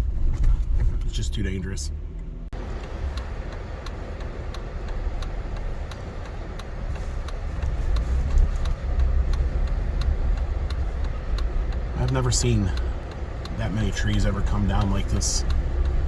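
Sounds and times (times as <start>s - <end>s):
car engine and road noise: 0.0s - 16.0s
light regular ticking: 0.3s - 16.0s.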